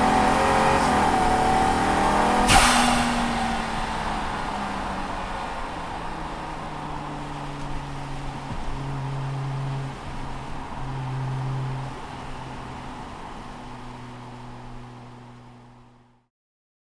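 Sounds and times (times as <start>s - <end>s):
car exhaust engine running: 0.0s - 16.2s.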